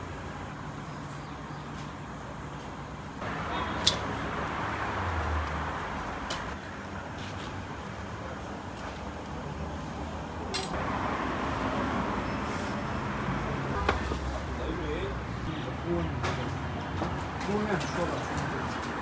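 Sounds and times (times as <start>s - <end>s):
busy outdoor food stall noise: 0.0s - 19.0s.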